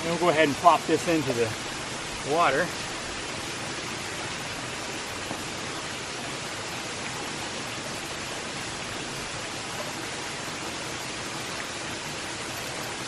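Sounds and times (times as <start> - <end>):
water rushing over a dam: 0.0 - 13.0.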